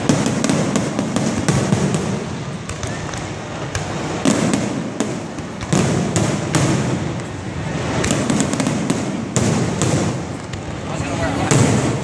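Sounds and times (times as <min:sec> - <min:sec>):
continuous fireworks rumble: 0:00.0 - 0:12.0
fireworks bangs and crackles: 0:00.0 - 0:12.0
heavy fireworks booms: 0:00.0 - 0:12.0.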